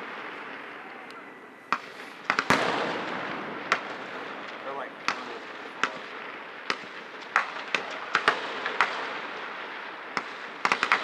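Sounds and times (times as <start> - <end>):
rifle shots: 1.7 - 11.0.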